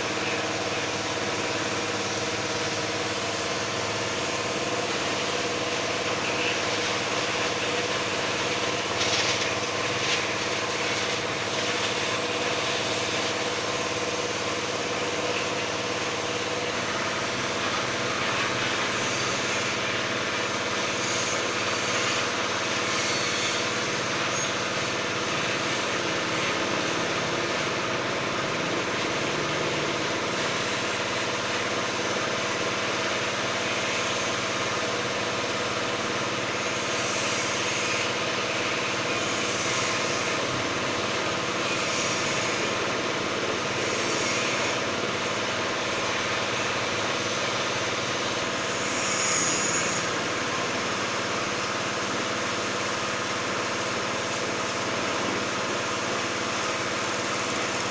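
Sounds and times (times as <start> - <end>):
high-pressure water jet hissing: 0.0 - 57.9.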